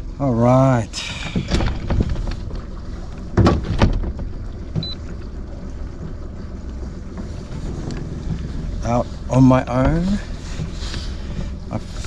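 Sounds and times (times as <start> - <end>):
outboard motor rumbling: 0.0 - 12.0.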